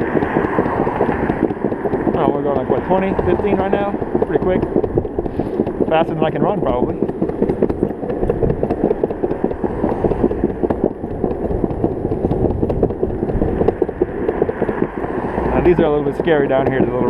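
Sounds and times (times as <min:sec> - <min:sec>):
longboard wheels rolling on concrete: 0:00.0 - 0:17.0
wheels clacking over joints: 0:00.0 - 0:17.0.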